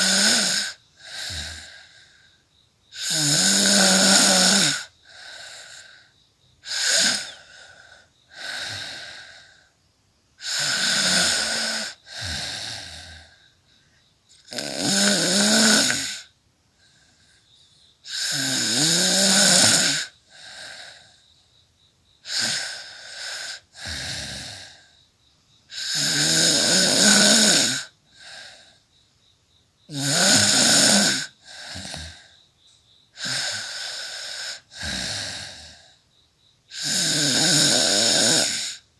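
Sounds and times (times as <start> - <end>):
woman snoring: 0.0 - 9.7, 10.4 - 13.6, 14.3 - 16.3, 18.0 - 21.2, 22.2 - 25.0, 25.7 - 28.8, 29.9 - 32.4, 33.1 - 36.0, 36.7 - 38.9.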